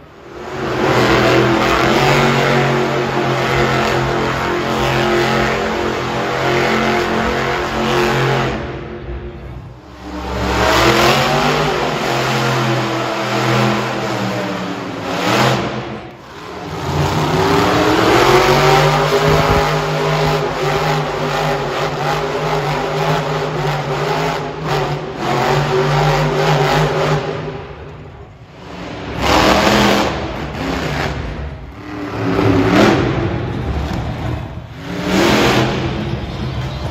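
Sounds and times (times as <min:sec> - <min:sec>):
monster truck engine revving: 0:00.0 - 0:36.9.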